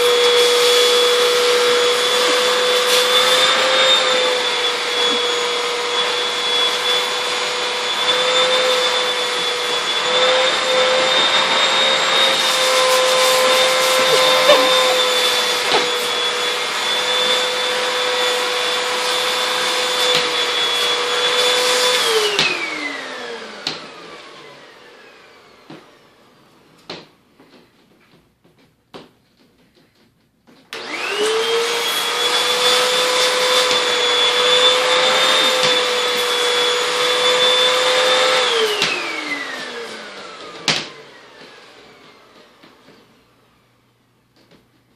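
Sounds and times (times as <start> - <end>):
vacuum cleaner whining: 0.0 - 28.7, 29.4 - 44.9.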